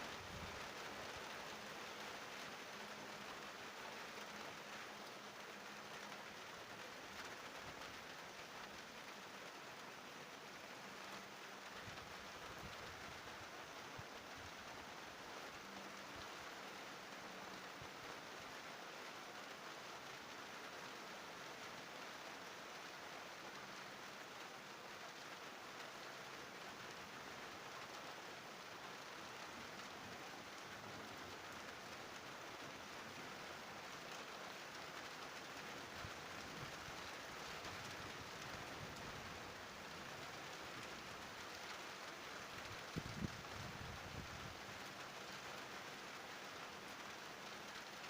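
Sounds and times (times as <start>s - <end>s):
steady rain hissing: 0.0s - 48.0s.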